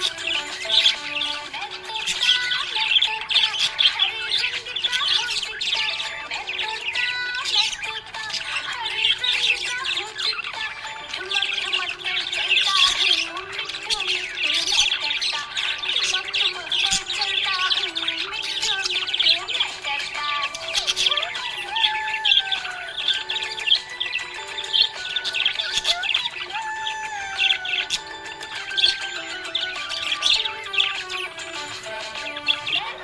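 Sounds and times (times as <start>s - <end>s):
budgie chirping and warbling: 0.0s - 33.0s.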